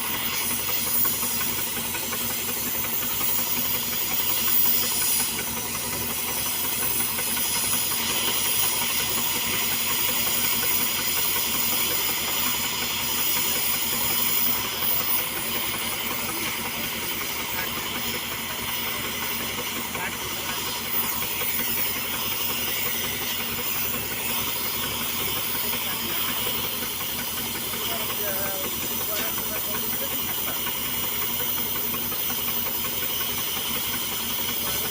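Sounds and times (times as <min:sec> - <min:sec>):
gas torch hissing loudly: 0:00.0 - 0:34.9.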